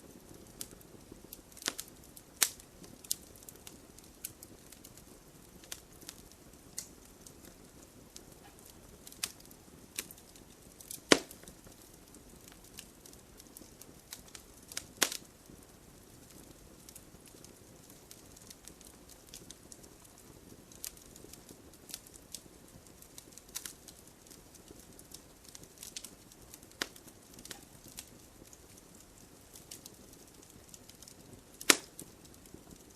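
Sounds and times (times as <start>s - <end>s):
campfire crackling: 0.0s - 32.9s
faint steady hiss: 0.0s - 32.9s.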